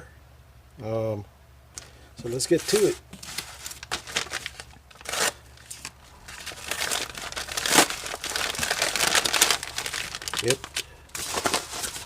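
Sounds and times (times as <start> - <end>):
package wrapping crinkling: 2.2 - 12.0
wrapping ripping: 2.3 - 12.0.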